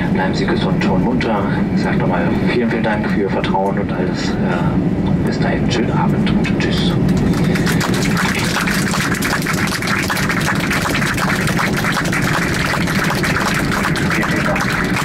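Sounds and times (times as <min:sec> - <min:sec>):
low hum of idling jet engines: 0:00.0 - 0:15.0.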